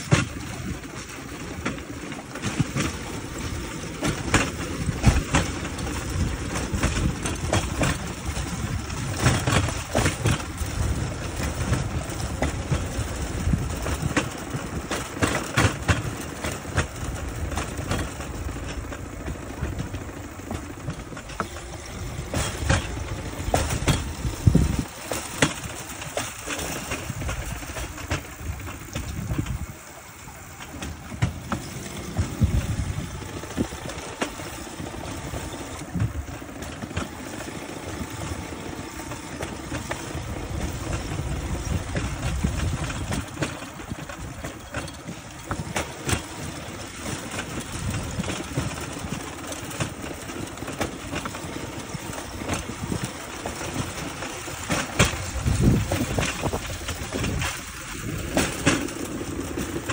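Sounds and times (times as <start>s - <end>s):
steel wheels rumbling on track: 0.0s - 59.9s
wheels clacking and rattling: 0.0s - 59.9s.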